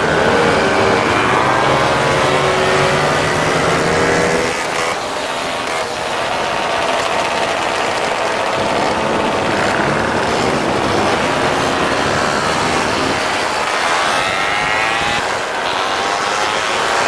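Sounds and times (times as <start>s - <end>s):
moped engines running: 0.0s - 17.0s
steady rushing noise: 0.0s - 17.0s.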